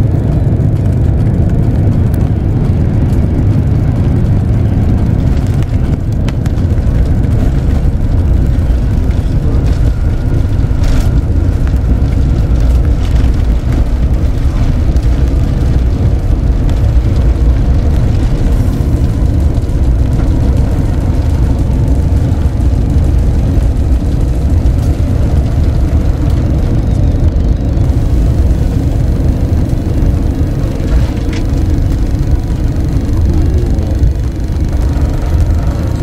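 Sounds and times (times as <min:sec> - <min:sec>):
airliner low rumble: 0:00.0 - 0:36.0.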